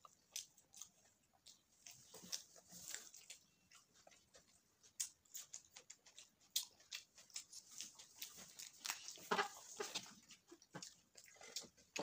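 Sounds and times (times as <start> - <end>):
person chewing with lips smacking: 0.0 - 12.0.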